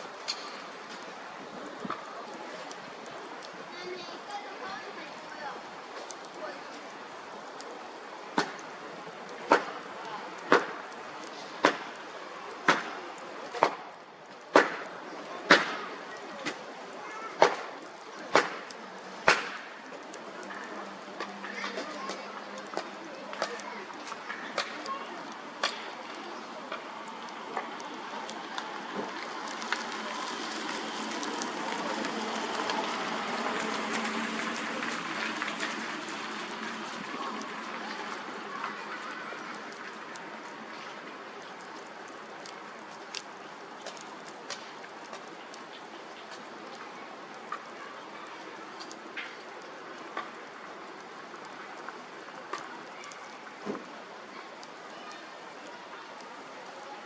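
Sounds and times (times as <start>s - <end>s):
bonfire hissing and crackling: 0.0s - 57.0s.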